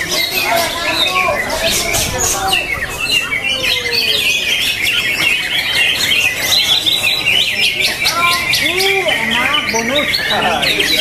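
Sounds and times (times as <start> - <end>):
bird chirps and trills: 0.0 - 11.0.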